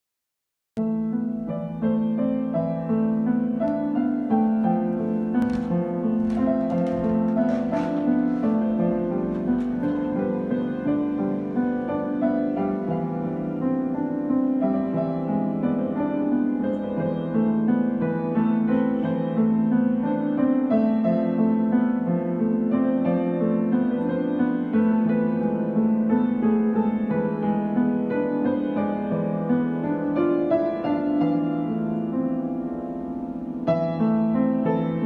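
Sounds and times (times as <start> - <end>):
solo piano waltz: 0.8 - 35.0.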